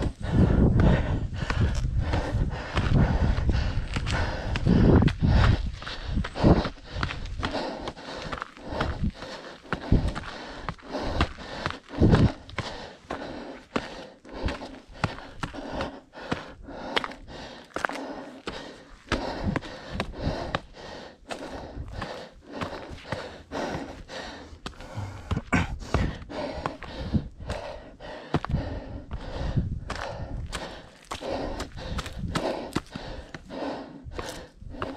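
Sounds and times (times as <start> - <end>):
heavy panting: 0.0 - 34.9
running footsteps on trail: 0.0 - 34.9.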